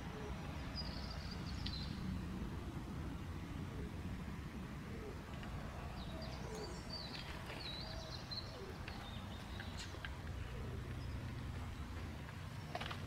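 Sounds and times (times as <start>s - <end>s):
songbirds chirping: 0.0s - 13.0s
steady low rumble: 0.0s - 13.0s.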